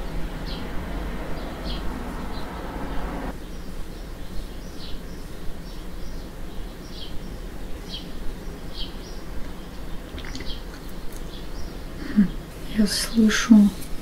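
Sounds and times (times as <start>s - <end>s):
small birds chirping: 0.0s - 2.6s, 3.3s - 14.0s
steady low hum: 0.0s - 14.0s.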